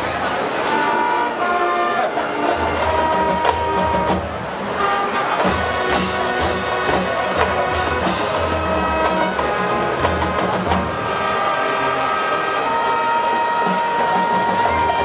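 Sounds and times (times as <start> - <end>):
marching band playing chords: 0.0 - 15.0.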